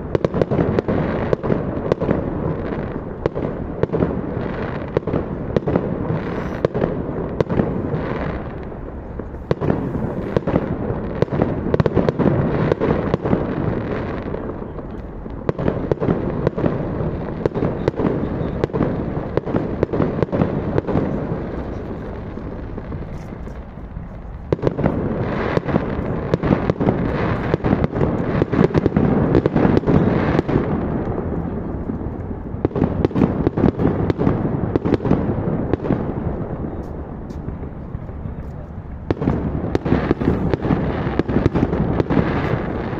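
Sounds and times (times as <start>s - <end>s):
fireworks bangs and crackles: 0.0s - 42.9s
fireworks rumble: 0.0s - 42.9s.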